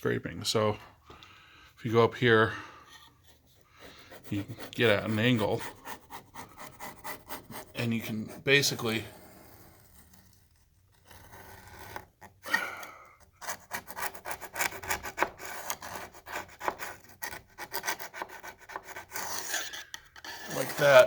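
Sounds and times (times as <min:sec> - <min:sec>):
putty knife scraping wood: 0:02.7 - 0:21.0.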